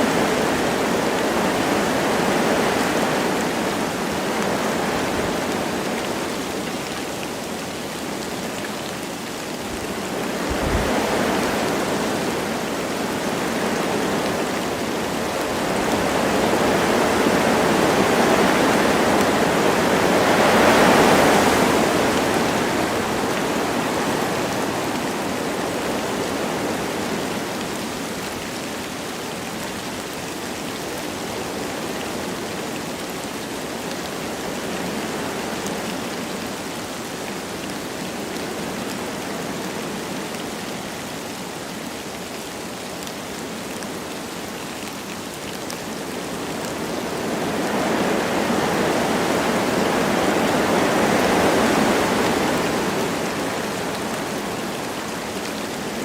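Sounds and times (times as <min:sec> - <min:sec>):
light rain: 0:00.0 - 0:56.0
wind blowing through trees: 0:00.0 - 0:56.0.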